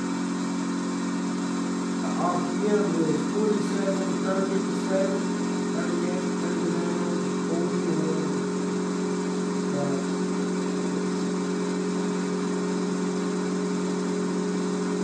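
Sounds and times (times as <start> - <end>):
electric motor humming and whirring: 0.0 - 15.0.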